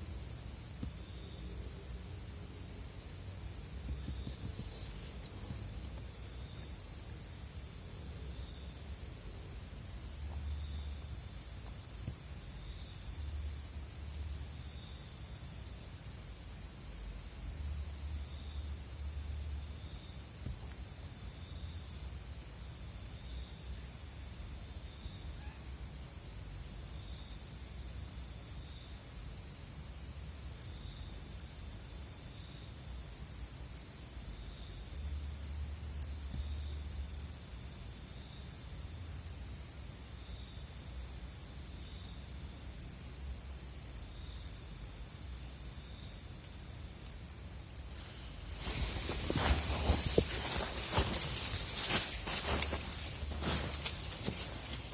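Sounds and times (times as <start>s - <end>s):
crickets trilling: 0.0s - 54.9s
insect chirps: 0.0s - 54.9s.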